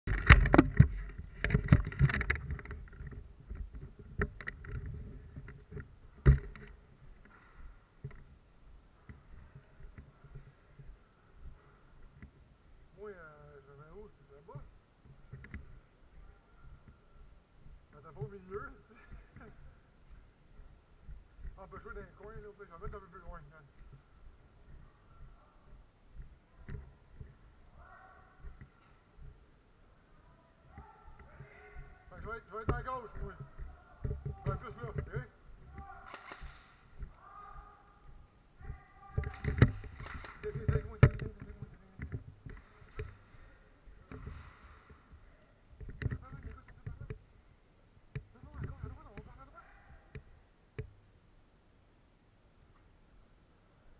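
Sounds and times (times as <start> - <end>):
soft footsteps on concrete: 0.5 - 51.1.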